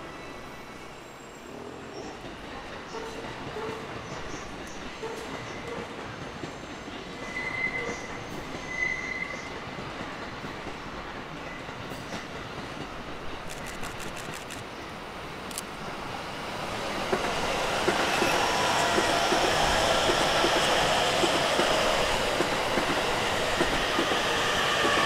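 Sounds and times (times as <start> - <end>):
electric train running past: 0.0 - 25.0.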